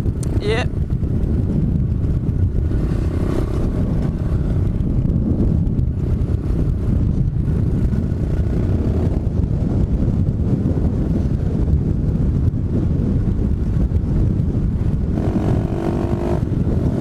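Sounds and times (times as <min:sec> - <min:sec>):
motorbike engine running: 0:00.0 - 0:17.0
wind buffeting microphone: 0:00.0 - 0:17.0.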